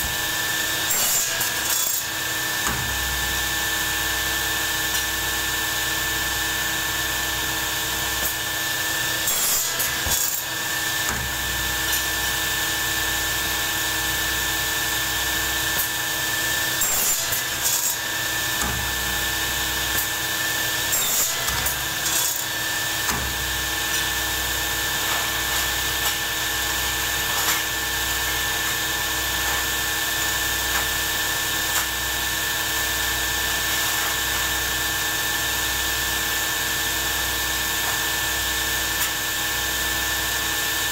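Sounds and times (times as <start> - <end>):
rough machine working noise: 0.0 - 40.9.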